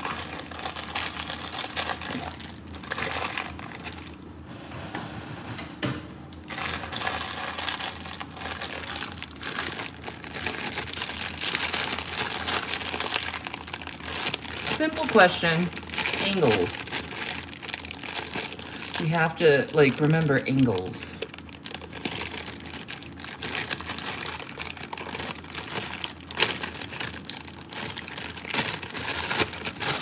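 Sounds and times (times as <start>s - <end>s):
plastic bag crinkling: 0.0s - 4.3s, 6.3s - 30.0s.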